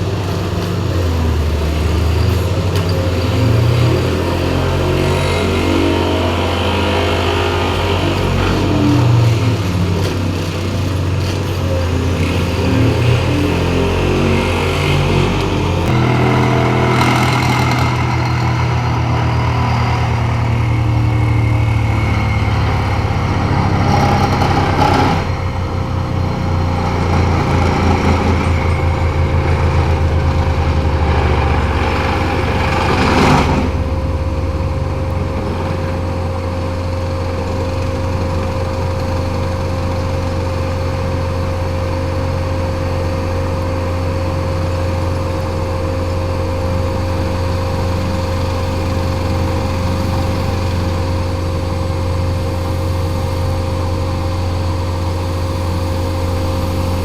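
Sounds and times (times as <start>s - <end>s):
diesel engine running: 0.0s - 57.0s
loud burst of noise: 0.0s - 57.0s.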